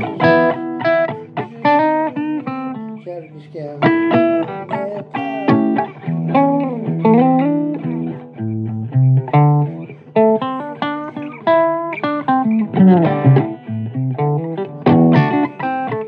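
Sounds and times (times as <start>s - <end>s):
blues guitar lines: 0.0s - 16.0s.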